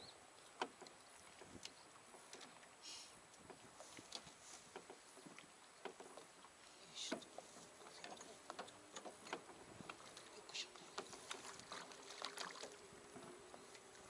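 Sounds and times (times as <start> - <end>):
small clicks and knocks in a boat: 0.0 - 14.0.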